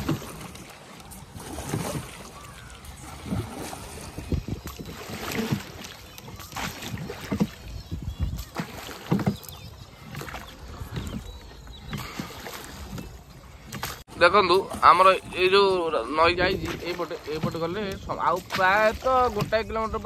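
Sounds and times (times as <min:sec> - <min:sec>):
oar splashing in water: 0:00.0 - 0:20.0.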